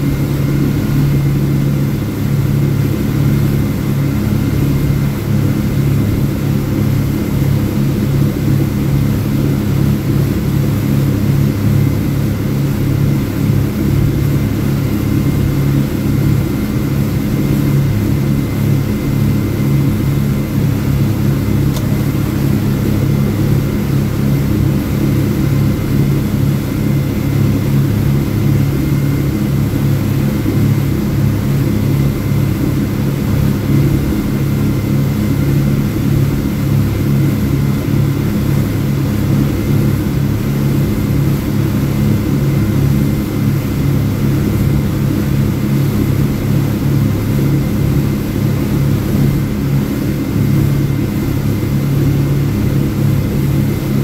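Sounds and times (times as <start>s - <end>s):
outboard motors running: 0.0s - 54.0s.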